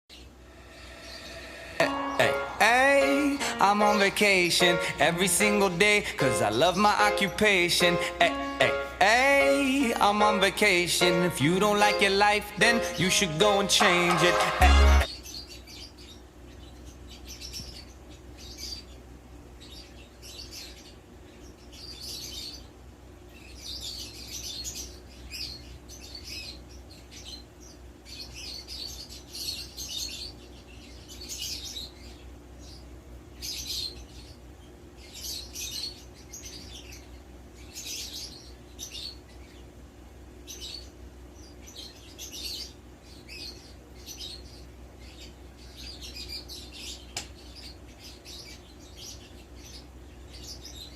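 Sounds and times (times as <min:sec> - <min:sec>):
bird chirping and twittering: 0:00.1 - 0:14.2, 0:14.9 - 0:39.8, 0:40.4 - 0:50.9.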